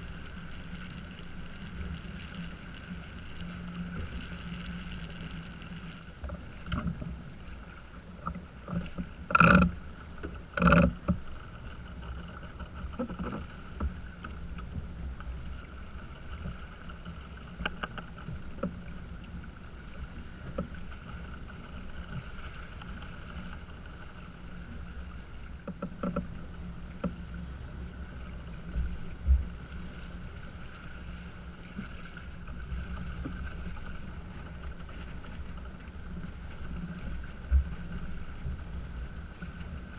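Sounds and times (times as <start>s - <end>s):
wind and water rushing: 0.0s - 39.9s.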